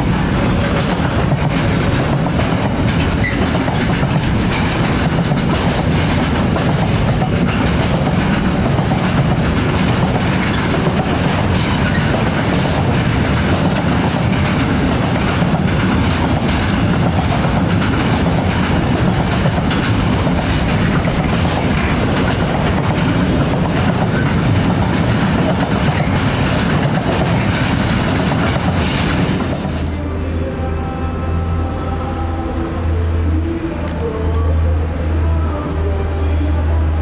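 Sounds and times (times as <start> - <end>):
wheels clicking over track: 0.0 - 30.0
train wheels rumbling on rails: 0.0 - 37.0.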